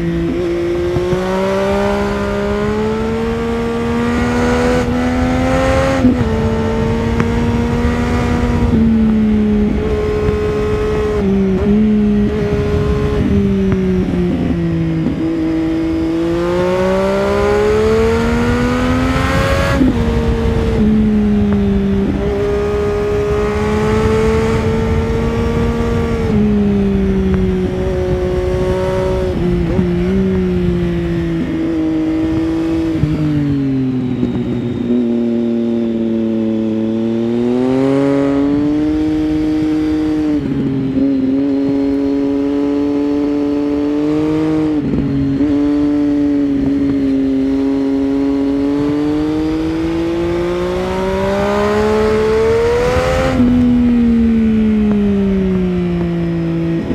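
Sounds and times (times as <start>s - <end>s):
motorcycle engine revving while riding: 0.0s - 56.9s.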